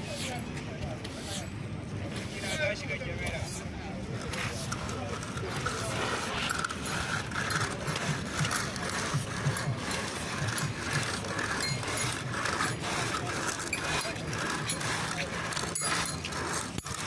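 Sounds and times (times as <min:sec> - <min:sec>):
construction machinery clattering: 0:01.9 - 0:17.0.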